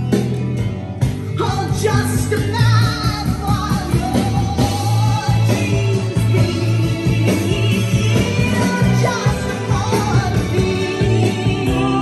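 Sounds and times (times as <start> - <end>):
song with singer and band: 0.0 - 12.0.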